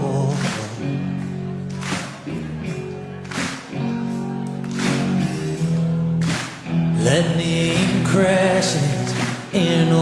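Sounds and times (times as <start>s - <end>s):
rock band instrumental: 0.0s - 9.7s.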